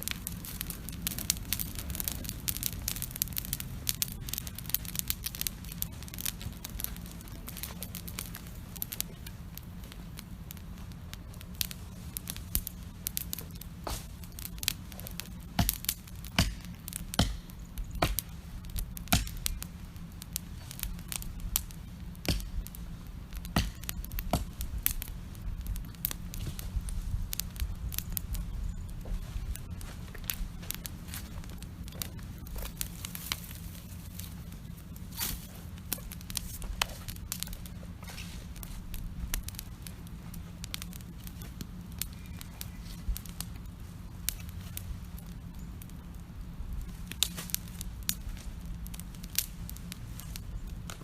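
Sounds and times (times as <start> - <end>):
campfire crackling and popping: 0.0 - 51.0
steady low rumble: 0.0 - 51.0.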